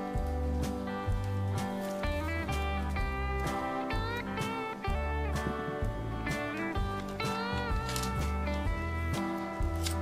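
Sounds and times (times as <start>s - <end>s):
country guitar tune: 0.0s - 10.0s.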